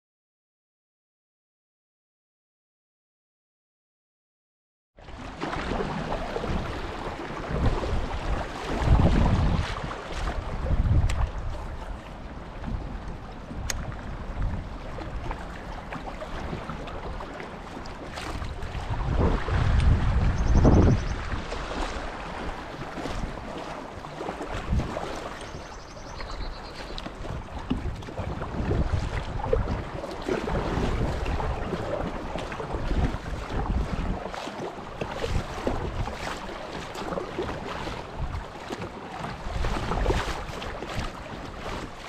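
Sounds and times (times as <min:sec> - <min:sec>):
wind rumbling on microphone: 0:05.0 - 0:42.0
river water splashing over rocks: 0:05.1 - 0:12.4, 0:13.0 - 0:20.0, 0:21.2 - 0:42.0.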